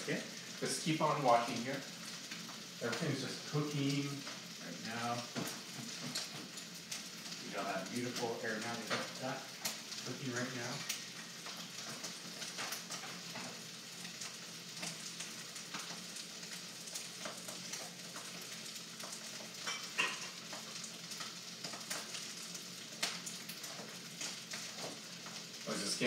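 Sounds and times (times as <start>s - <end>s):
rice sizzling in a wok: 0.0s - 26.0s.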